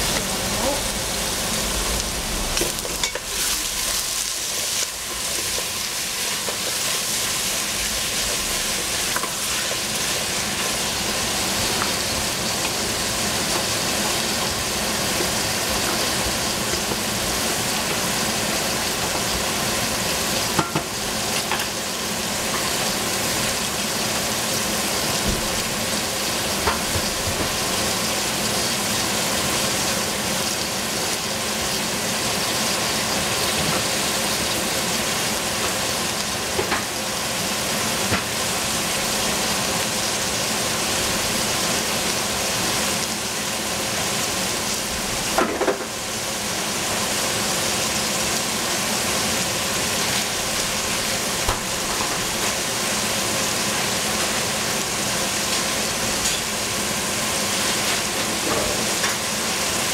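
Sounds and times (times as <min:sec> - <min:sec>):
squash sizzling in a pot: 0:00.0 - 0:59.9.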